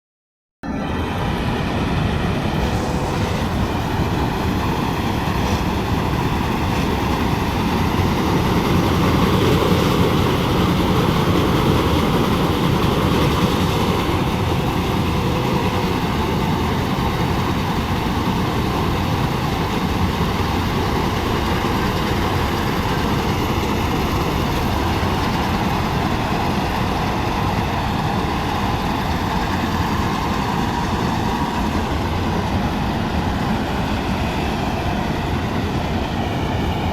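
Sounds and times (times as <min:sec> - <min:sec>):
combine harvester running: 0:00.6 - 0:36.9.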